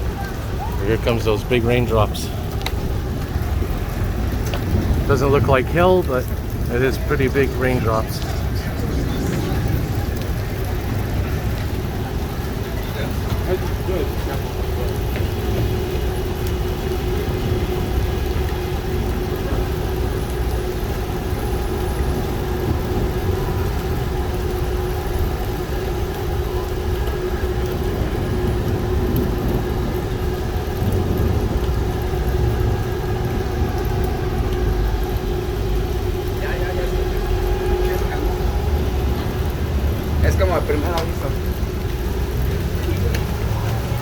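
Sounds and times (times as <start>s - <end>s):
low rumble: 0.0s - 44.0s.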